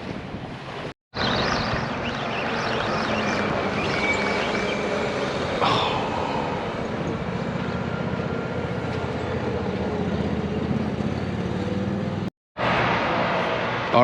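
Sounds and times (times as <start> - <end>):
constant rushing noise: 0.0 - 14.0.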